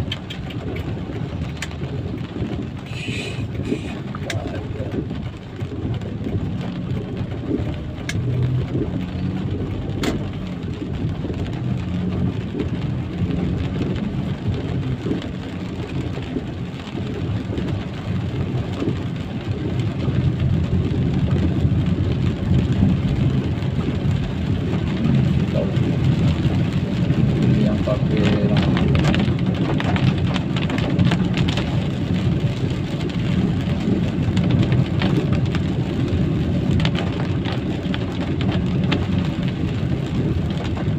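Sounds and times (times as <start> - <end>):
rain hiss: 0.0 - 40.9
traffic rumble on wet road: 0.0 - 40.9.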